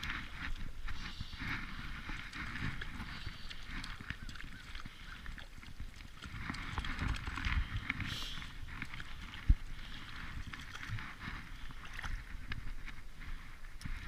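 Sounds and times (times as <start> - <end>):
fish splashing in water: 0.0 - 14.0.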